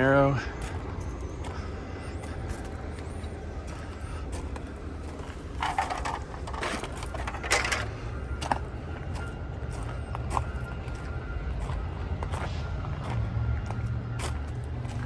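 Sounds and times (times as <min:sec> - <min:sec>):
steady low rumble: 0:00.0 - 0:15.0
crunching or clinking noises: 0:00.6 - 0:15.0.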